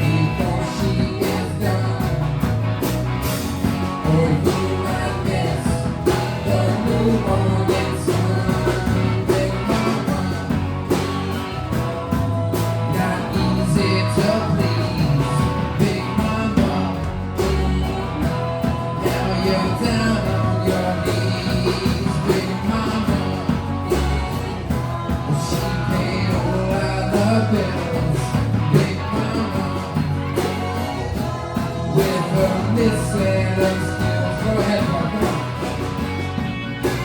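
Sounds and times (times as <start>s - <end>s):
drums beating: 0.0s - 37.0s
live rock band playing: 0.0s - 37.0s.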